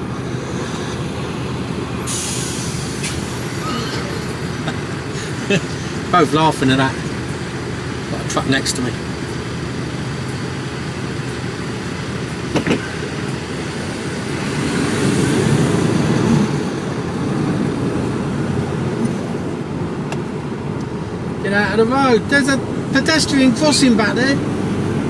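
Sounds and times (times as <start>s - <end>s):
diesel engine running: 0.0s - 25.0s
road rumble: 0.0s - 25.0s.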